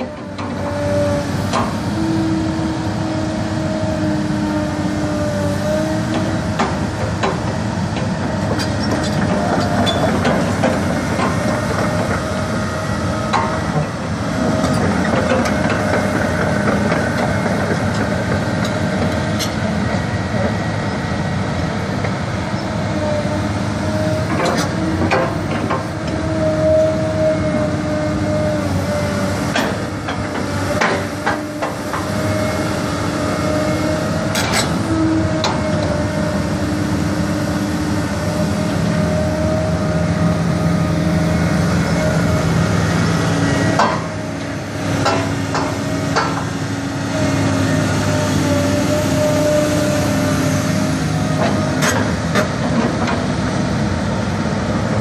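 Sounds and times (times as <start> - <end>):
excavator engine and hydraulics humming: 0.0 - 55.0.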